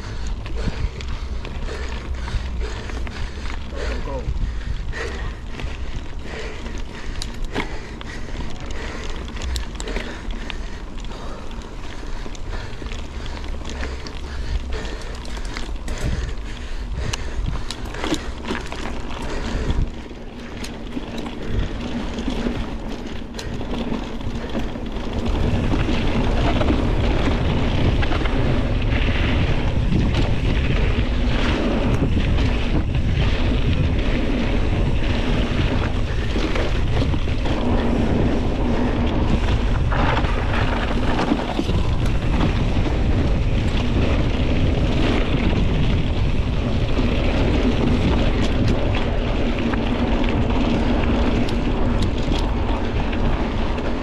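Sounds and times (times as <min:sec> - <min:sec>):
bike rattling over bumps: 0:00.0 - 0:54.0
tyres crunching on gravel: 0:00.0 - 0:54.0
wind buffeting microphone: 0:00.0 - 0:54.0.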